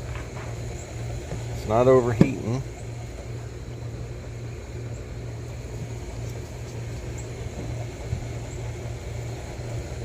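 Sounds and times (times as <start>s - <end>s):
low mechanical hum of minivan: 0.0s - 10.0s.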